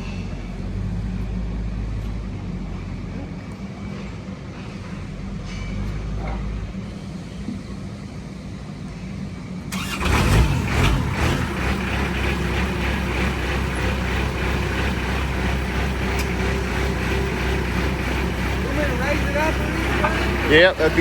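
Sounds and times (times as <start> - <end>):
diesel engine starting and idling: 0.0 - 7.4, 9.6 - 21.0.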